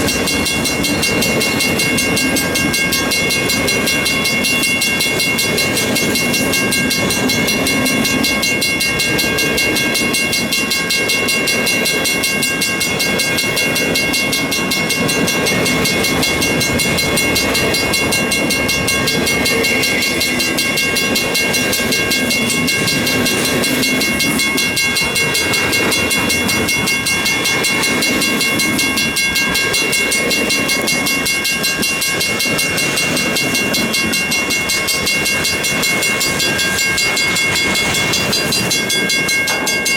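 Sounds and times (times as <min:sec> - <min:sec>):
freight train cars rolling: 0:00.0 - 0:39.9
high-pitched steady tones: 0:00.0 - 0:39.9.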